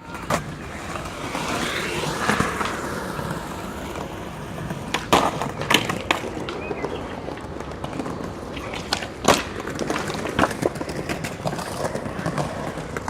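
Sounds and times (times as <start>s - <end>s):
skateboard clacks: 0.0s - 13.0s
skateboard wheels rumbling: 0.0s - 13.0s.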